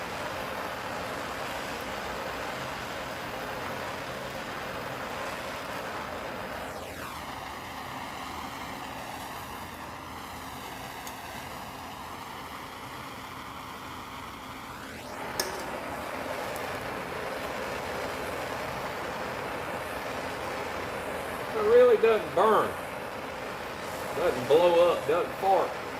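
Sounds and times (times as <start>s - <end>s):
steady hissing rush: 0.0s - 25.9s.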